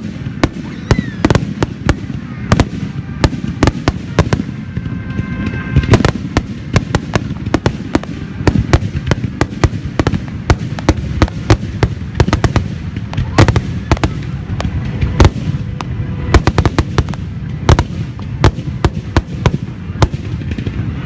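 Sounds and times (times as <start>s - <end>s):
continuous low rumble: 0.0s - 21.0s
firework bangs: 0.0s - 21.0s.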